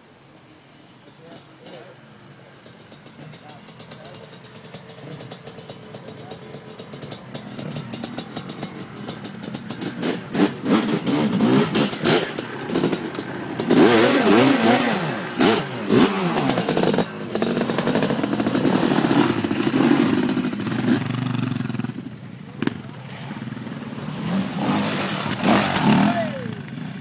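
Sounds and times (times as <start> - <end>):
dirt bike engines revving: 1.1 - 27.0
dirt bike passing close: 2.6 - 27.0.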